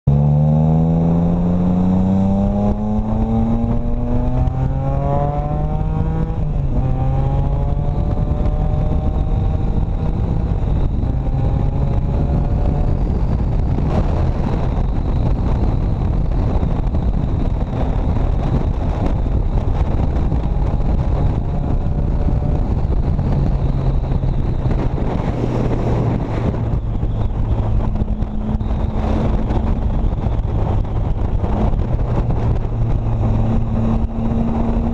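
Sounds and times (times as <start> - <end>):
motorcycle engine accelerating: 0.0 - 34.9
wind rush: 0.1 - 34.9.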